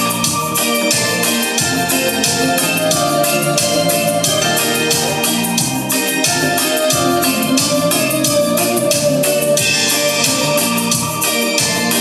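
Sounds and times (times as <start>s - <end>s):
keyboard chords: 0.0s - 12.0s
steady beat: 0.0s - 12.0s.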